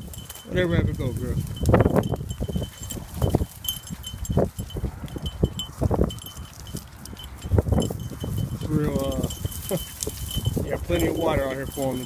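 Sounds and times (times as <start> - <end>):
faint metallic jingling: 0.0 - 12.0
footsteps through undergrowth: 0.0 - 12.0.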